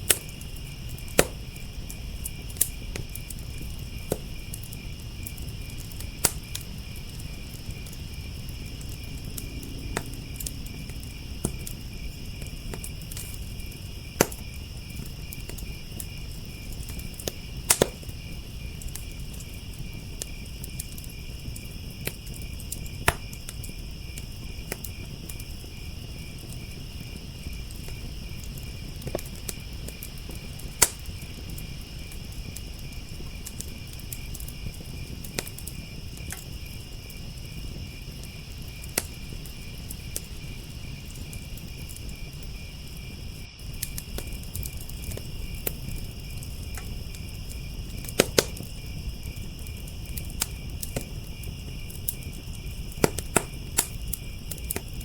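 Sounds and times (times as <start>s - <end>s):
crickets chirping: 0.0s - 55.0s
wood fire crackling and popping: 0.0s - 55.0s.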